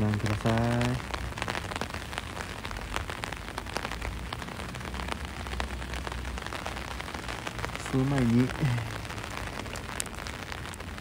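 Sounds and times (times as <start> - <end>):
rain drops ticking: 0.0 - 11.0.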